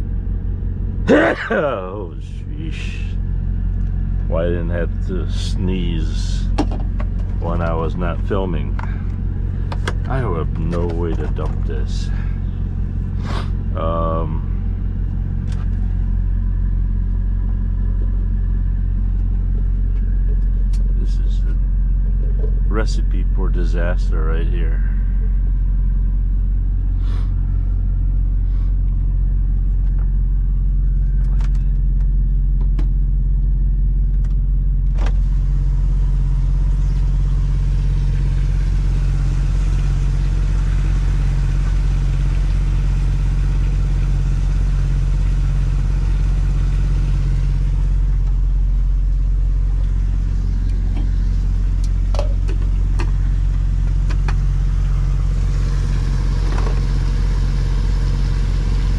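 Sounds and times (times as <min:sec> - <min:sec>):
truck diesel engine idling: 0:00.0 - 0:58.9.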